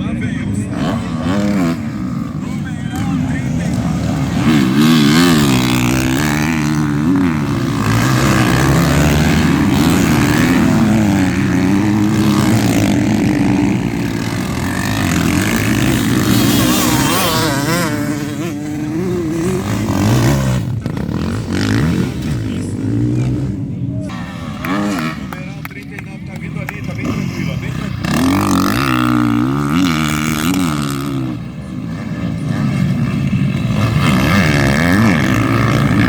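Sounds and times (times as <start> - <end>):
motocross bike engines revving: 0.0 - 36.0.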